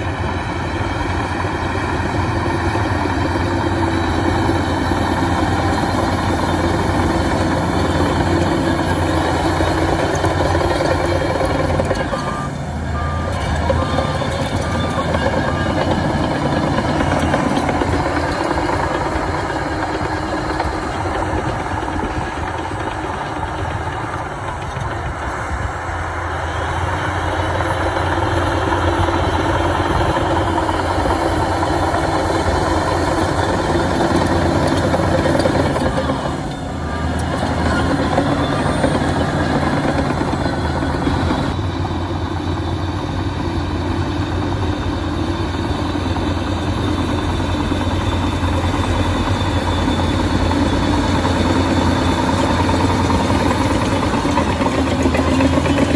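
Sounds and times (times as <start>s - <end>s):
bulldozer diesel engine running: 0.0s - 55.9s
reversing alarm beeping: 0.1s - 25.2s, 26.3s - 55.9s.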